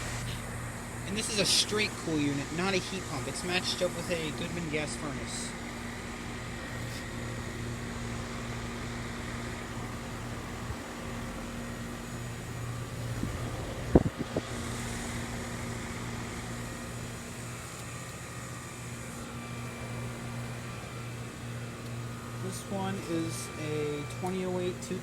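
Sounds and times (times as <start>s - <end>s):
air-conditioner unit humming: 0.0s - 25.0s.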